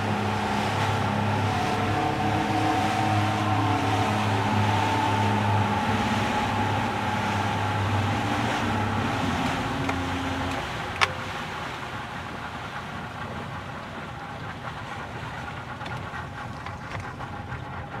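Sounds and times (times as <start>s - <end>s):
boat engine running: 0.0s - 18.0s
rushing wind and water: 0.0s - 18.0s.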